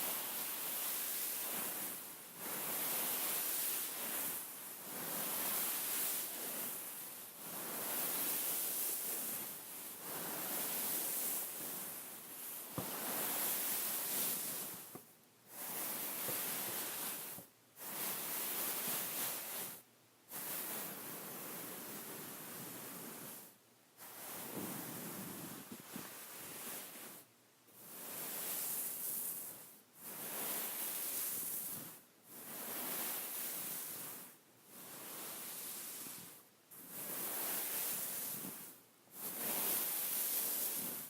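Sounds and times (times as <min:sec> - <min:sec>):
hands rubbing beaded pillow: 0:00.0 - 0:41.0.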